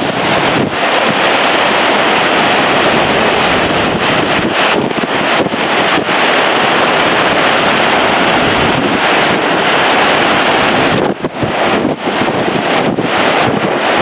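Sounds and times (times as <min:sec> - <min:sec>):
strong wind blowing: 0:00.0 - 0:14.0
wind buffeting microphone: 0:00.0 - 0:14.0.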